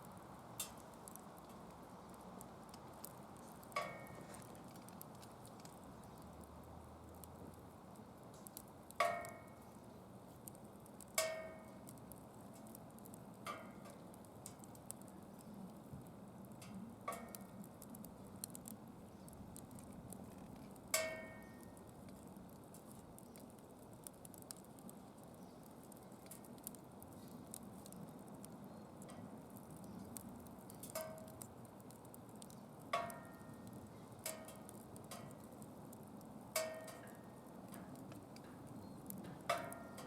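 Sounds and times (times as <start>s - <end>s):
fire crackling: 0.0s - 40.0s
small ticks: 0.0s - 40.0s.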